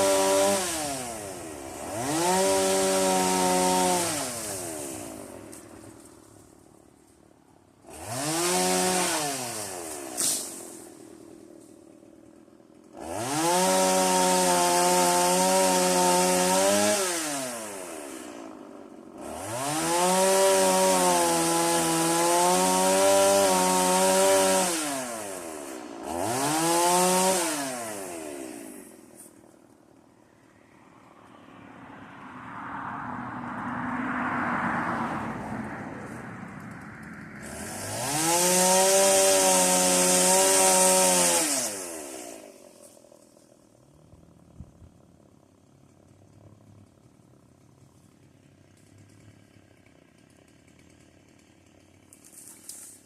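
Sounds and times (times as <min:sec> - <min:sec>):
chainsaw revving cutting wood: 0:00.0 - 0:31.4, 0:33.5 - 0:53.0.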